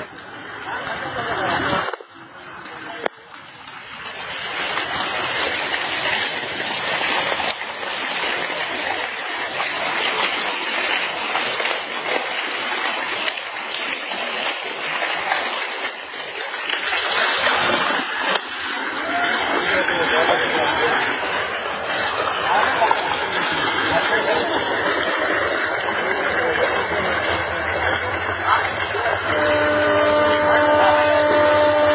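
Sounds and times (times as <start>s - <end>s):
water gushing from tree: 0.0s - 31.9s.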